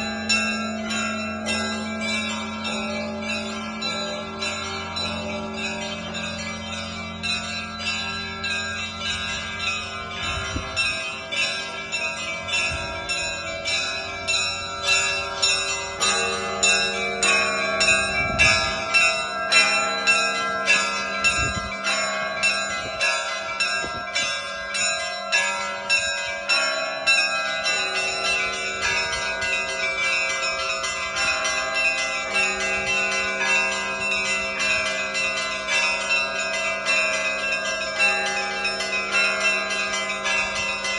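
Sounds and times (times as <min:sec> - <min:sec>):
deeper bells ringing: 0:00.0 - 0:40.9
lower bell tone: 0:00.0 - 0:40.9.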